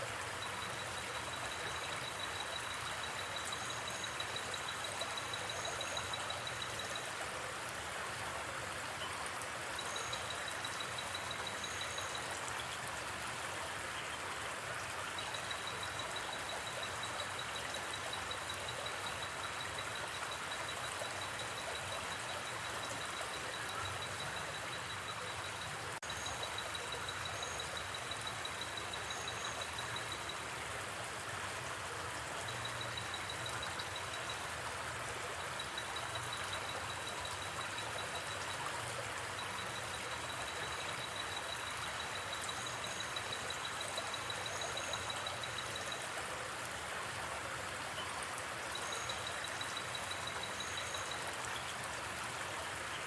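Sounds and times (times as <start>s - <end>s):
flowing river water: 0.0s - 53.0s.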